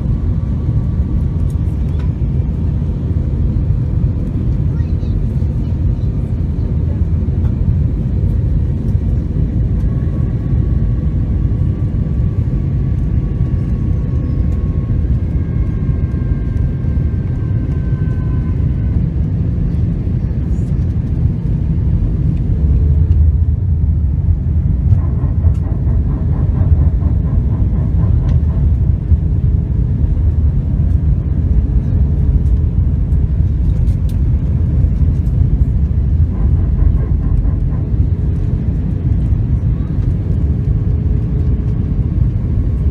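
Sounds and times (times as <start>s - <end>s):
airliner engines rumbling: 0.0s - 42.9s.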